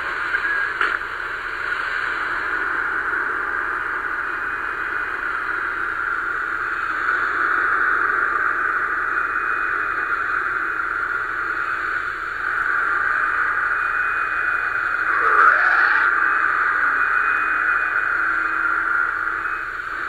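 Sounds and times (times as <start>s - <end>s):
steady hissing noise: 0.0s - 20.0s.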